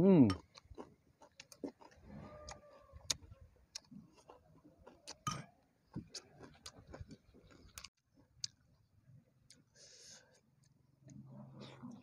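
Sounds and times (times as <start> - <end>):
person chewing with wet smacks: 0.3 - 8.7, 9.4 - 12.0.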